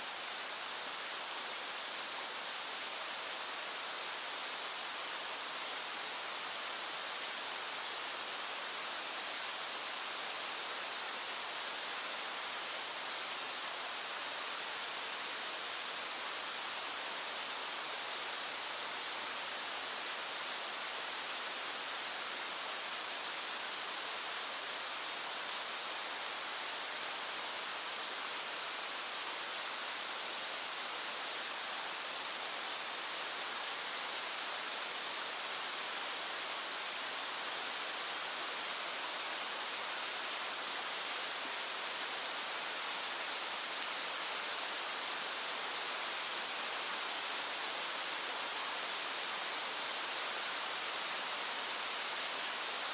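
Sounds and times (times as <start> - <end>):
stream flowing over stones: 0.0 - 52.9.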